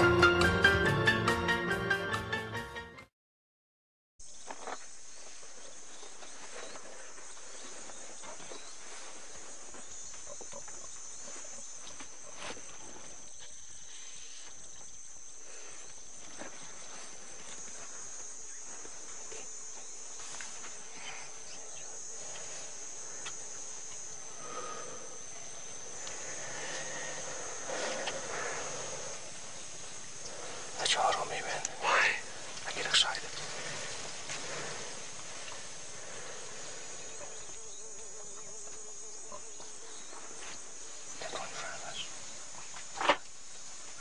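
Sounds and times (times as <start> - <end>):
insects buzzing: 4.2 - 44.0.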